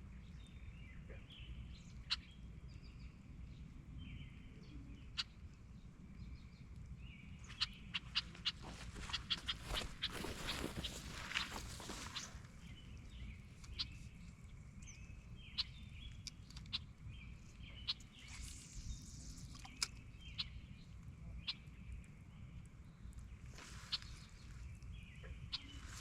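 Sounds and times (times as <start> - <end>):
low background rumble: 0.0 - 26.0
faint bird calls: 4.2 - 26.0.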